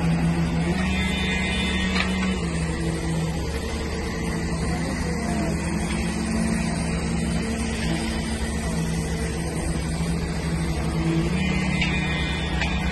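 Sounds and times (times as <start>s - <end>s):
heavy diesel truck engines running: 0.0s - 12.9s.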